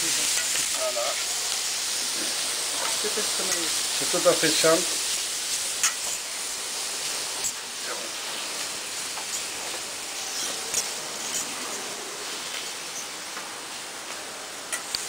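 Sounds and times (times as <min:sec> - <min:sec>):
steak sizzling in a pan: 0:00.0 - 0:15.0.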